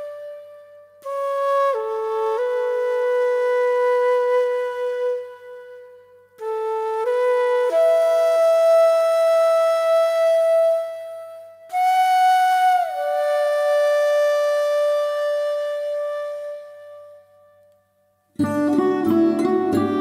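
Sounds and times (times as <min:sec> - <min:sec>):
solo flute: 0:00.0 - 0:20.0.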